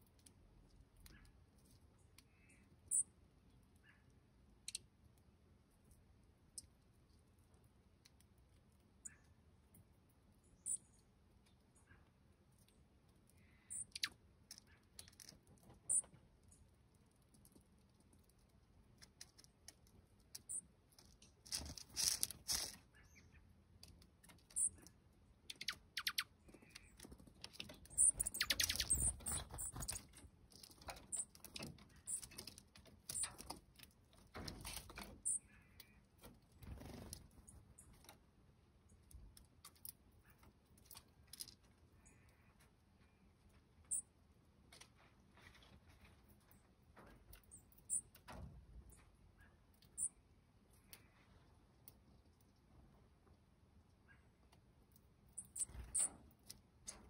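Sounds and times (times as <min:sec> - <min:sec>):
birds pecking seeds: 0:00.0 - 0:57.0.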